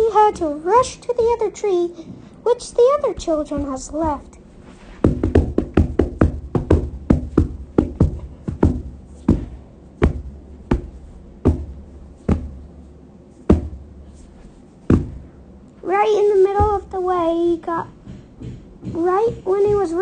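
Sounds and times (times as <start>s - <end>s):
running footsteps on hard surface: 2.7s - 15.4s, 16.3s - 20.0s.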